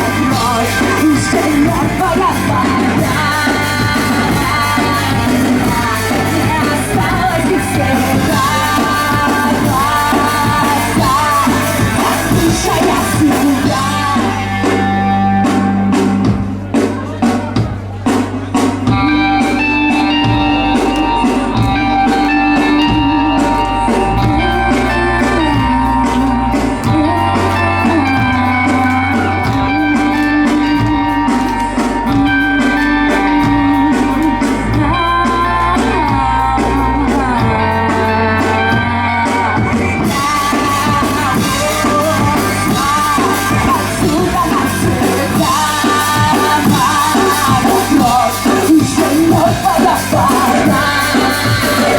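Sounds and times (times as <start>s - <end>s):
live rock band playing: 0.0s - 51.9s
person singing: 0.0s - 51.9s.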